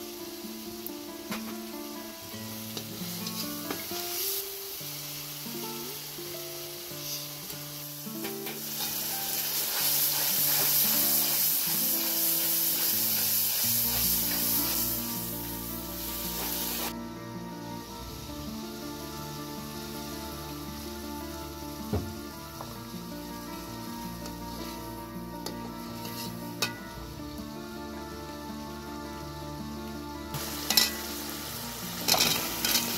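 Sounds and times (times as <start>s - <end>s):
paste sizzling in hot oil: 0.0s - 32.9s
soft guitar music: 0.0s - 32.9s.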